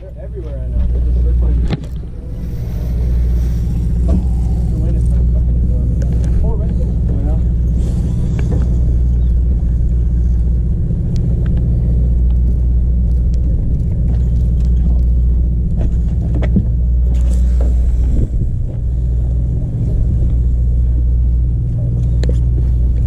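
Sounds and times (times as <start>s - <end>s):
boat engine rumbling: 0.0s - 23.0s.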